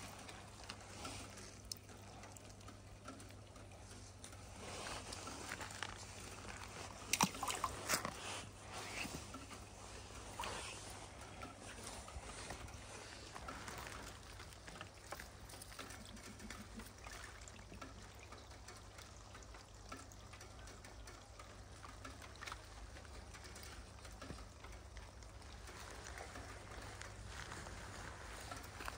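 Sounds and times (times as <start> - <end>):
ice fizzing and crackling: 0.0 - 28.9.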